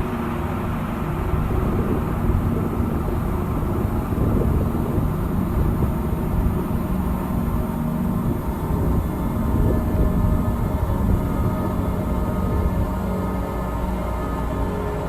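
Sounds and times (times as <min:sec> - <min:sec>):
low rumbling drone: 0:00.0 - 0:15.0
faint held low tones: 0:00.5 - 0:15.0.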